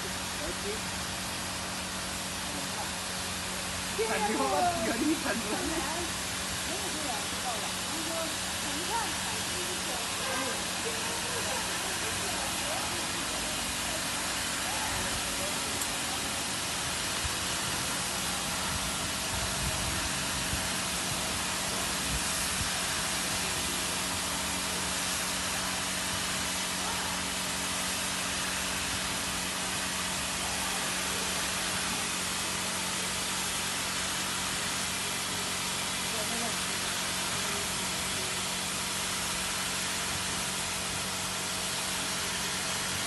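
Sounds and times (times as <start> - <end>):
pump and motors humming: 0.0 - 43.0
water spray hissing: 2.1 - 43.0.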